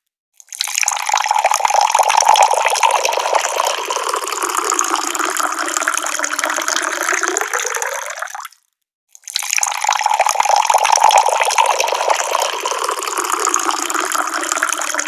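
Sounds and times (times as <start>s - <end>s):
water pouring from a tap: 0.4s - 15.0s.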